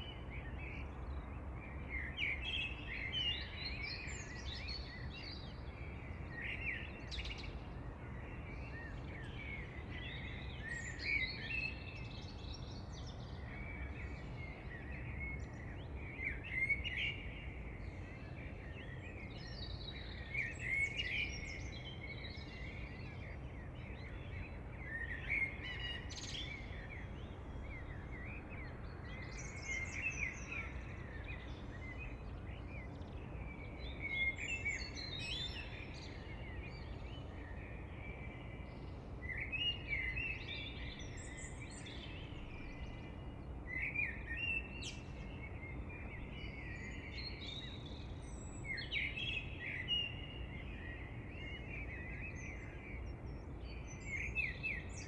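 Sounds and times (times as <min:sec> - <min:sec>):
bird chirping: 0:00.0 - 0:55.0
low background noise: 0:00.0 - 0:55.0.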